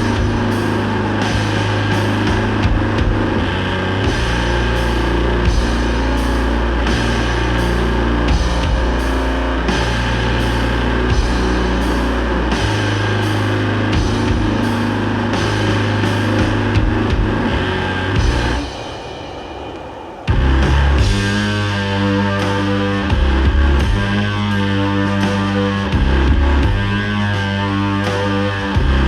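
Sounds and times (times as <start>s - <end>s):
heavy guitar and bass chords: 0.0s - 29.0s
slow drum beat with cymbals: 0.0s - 29.0s.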